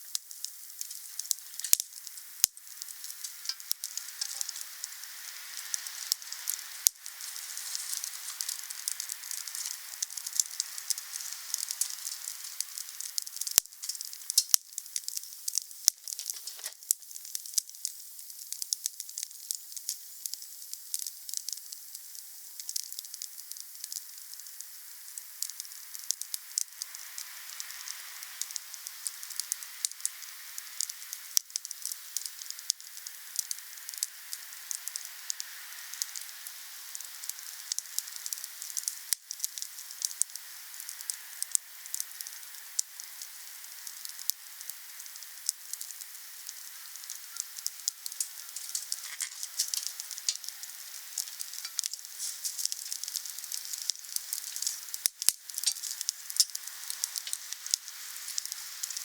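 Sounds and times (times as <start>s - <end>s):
fire popping: 0.0s - 27.7s, 28.4s - 59.0s
wood fire crackling and hissing: 0.0s - 59.0s.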